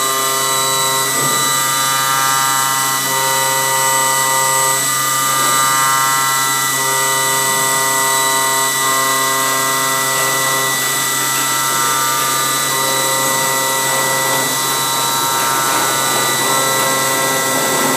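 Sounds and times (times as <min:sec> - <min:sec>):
cutting machine whining: 0:00.0 - 0:17.9.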